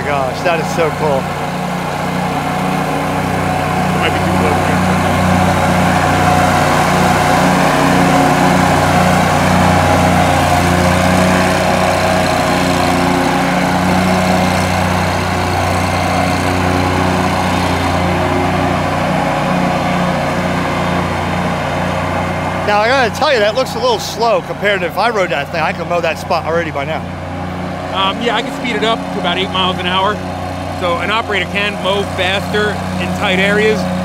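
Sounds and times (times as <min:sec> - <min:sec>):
mower cutting blades: 0:00.0 - 0:34.0
mower engine running: 0:00.0 - 0:34.0.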